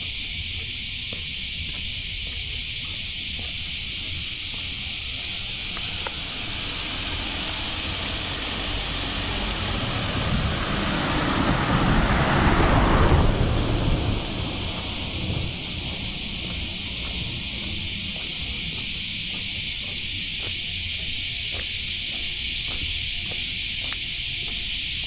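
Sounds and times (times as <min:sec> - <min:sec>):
wind rumble on microphone: 0:00.0 - 0:21.7
steady high hiss: 0:00.0 - 0:25.0
car passing: 0:03.3 - 0:25.0.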